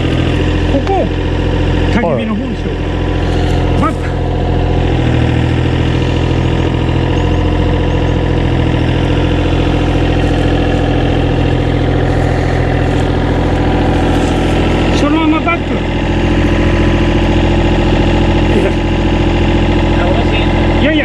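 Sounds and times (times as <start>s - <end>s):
construction machine engine running: 0.0s - 21.0s.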